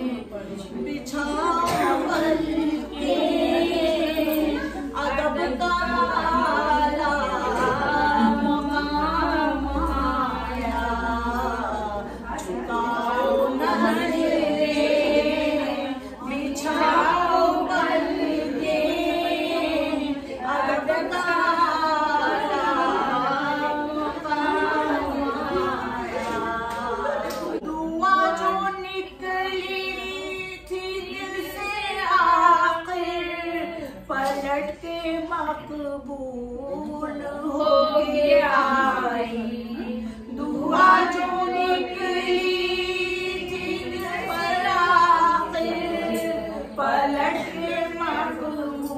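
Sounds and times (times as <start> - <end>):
women singing devotional song: 0.0 - 48.9.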